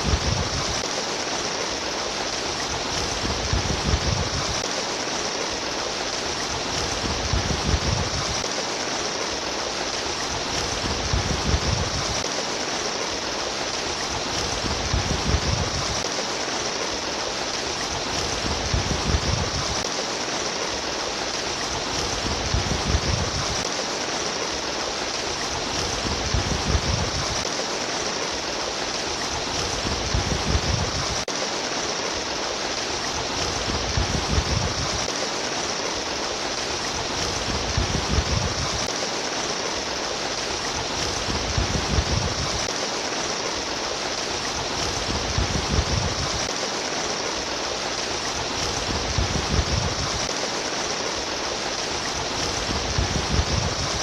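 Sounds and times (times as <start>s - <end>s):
running water babbling: 0.0s - 54.0s.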